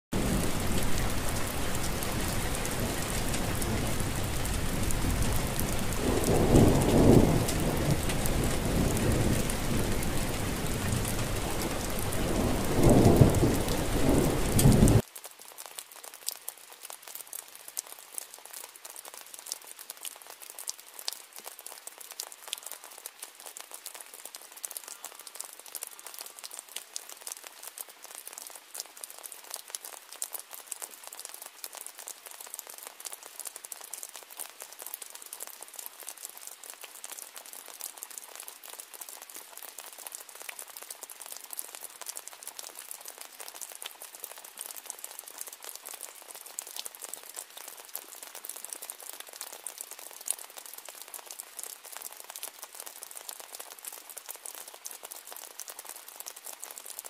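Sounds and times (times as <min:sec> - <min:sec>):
heavy rain: 0:00.1 - 0:57.0
thin patter of raindrops: 0:00.1 - 0:57.0.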